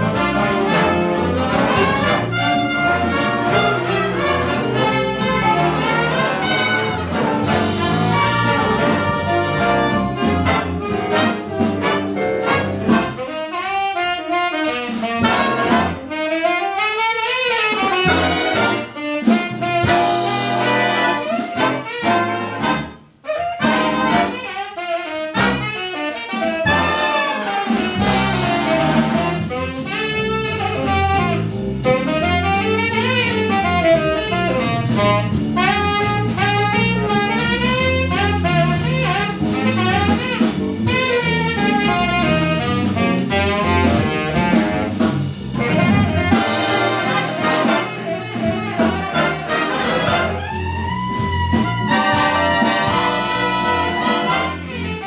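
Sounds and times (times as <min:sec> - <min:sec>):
big band jazz: 0:00.0 - 0:55.0
tenor saxophone solo: 0:00.0 - 0:55.0.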